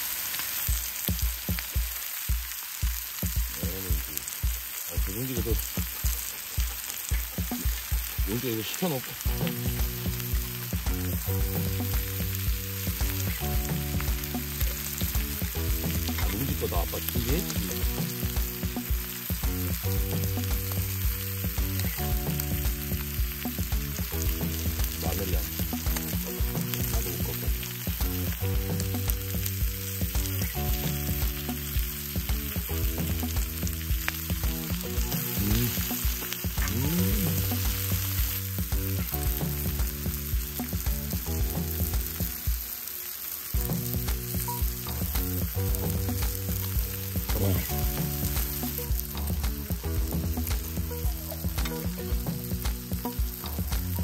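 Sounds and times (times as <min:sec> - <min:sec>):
meat sizzling: 0:00.0 - 0:54.0
background music: 0:00.6 - 0:54.0.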